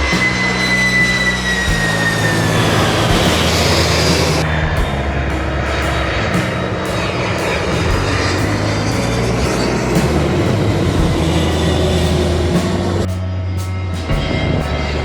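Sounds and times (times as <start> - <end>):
jet airliner passing overhead: 0.0 - 13.1
background music: 0.0 - 15.0.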